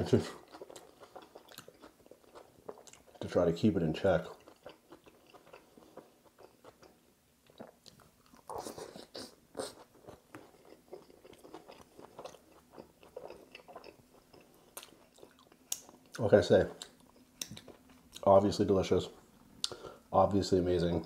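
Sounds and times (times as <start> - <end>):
chewing: 0.2 - 3.3, 4.2 - 18.3.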